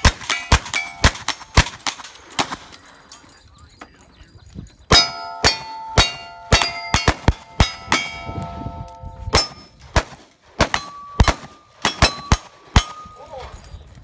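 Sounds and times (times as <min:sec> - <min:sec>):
steel plates clanging and ringing: 0:00.2 - 0:01.6, 0:02.2 - 0:09.8, 0:10.7 - 0:13.8.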